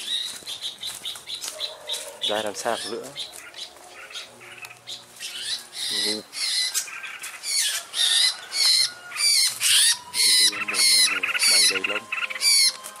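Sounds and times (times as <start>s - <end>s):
low rough bird chatter: 0.0s - 12.8s
bird calling chirpy phrases: 0.0s - 13.0s.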